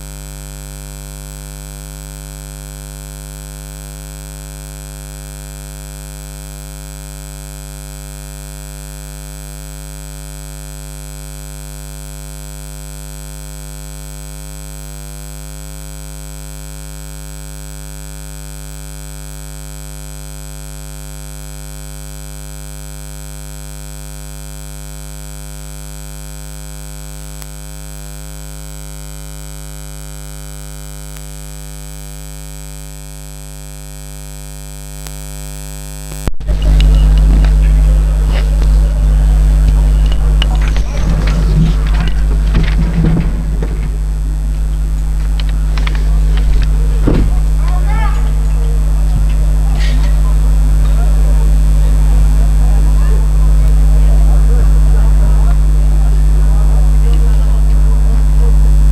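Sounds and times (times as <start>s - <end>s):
electrical hum with hiss: 0.0s - 58.9s.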